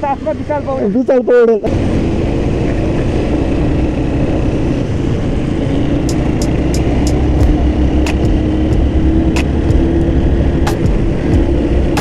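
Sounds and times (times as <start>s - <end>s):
motorcycle engine hum: 0.0s - 12.0s.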